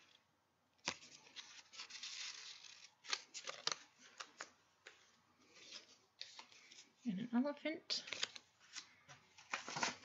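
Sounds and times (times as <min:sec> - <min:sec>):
paper rustling: 0:00.8 - 0:07.0, 0:08.1 - 0:10.0.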